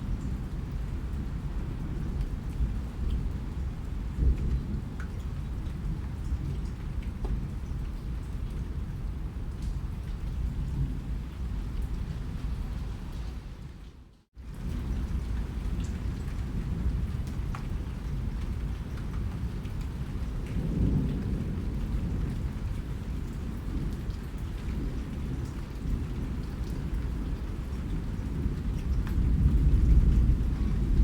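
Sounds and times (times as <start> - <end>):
low rumble of thunder: 0.0 - 31.0
steady rain: 0.0 - 31.0.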